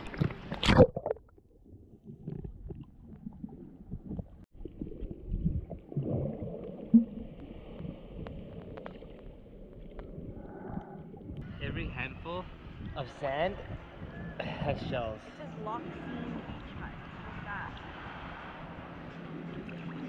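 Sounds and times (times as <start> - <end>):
underwater gurgling rumble: 0.0 - 15.1, 15.8 - 20.0.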